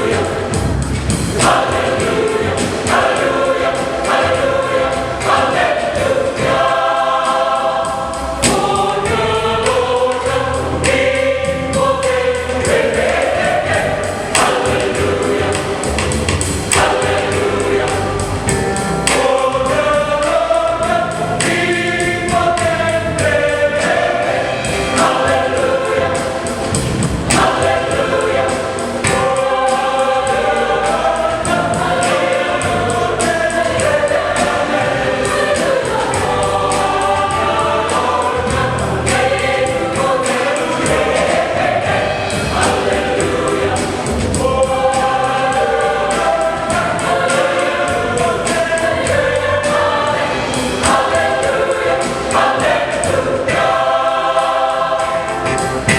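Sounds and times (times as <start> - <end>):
choir singing gospel: 0.0 - 55.9.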